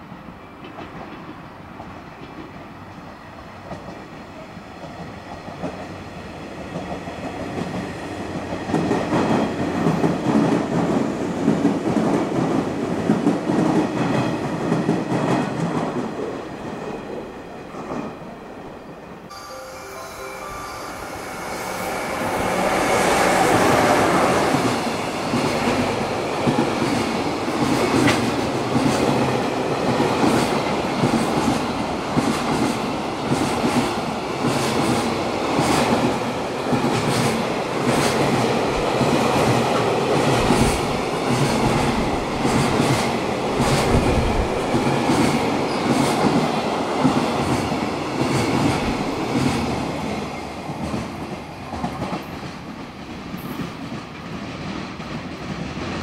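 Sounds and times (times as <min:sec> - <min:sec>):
electric locomotive passing: 0:00.0 - 0:56.0
rhythmic rail-joint clatter: 0:00.1 - 0:16.3, 0:21.7 - 0:56.0.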